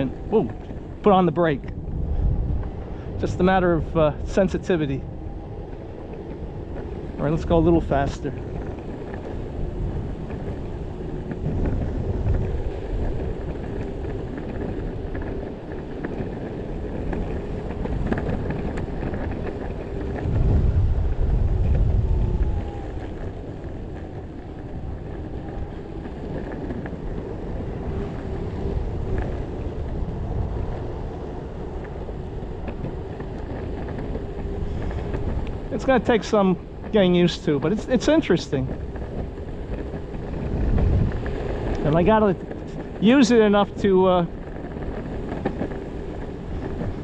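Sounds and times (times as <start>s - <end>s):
skateboard wheels rumbling: 0.0s - 47.0s
wind buffeting microphone: 0.0s - 47.0s.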